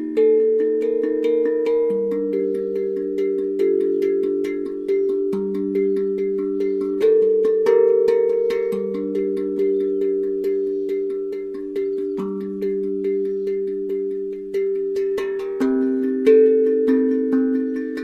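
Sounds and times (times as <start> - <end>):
instrumental background music: 0.0 - 18.0.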